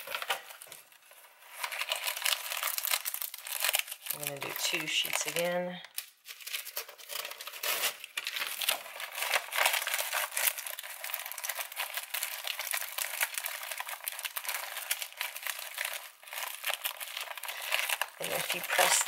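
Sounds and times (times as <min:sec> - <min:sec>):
seaweed sheets crinkling: 0:00.0 - 0:19.0.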